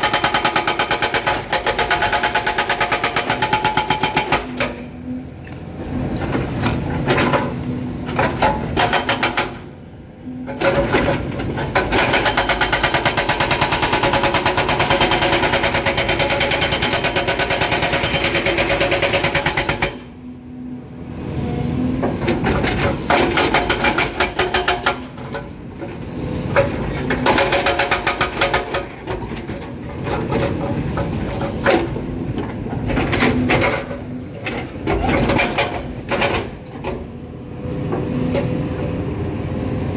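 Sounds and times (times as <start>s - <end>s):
hydraulic breaker hammering rock: 0.0s - 4.8s, 7.0s - 9.7s, 10.4s - 20.2s, 22.0s - 37.1s.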